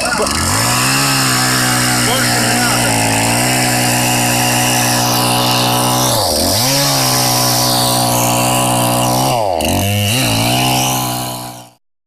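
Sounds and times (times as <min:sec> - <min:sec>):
chainsaw cutting wood: 0:00.0 - 0:11.8.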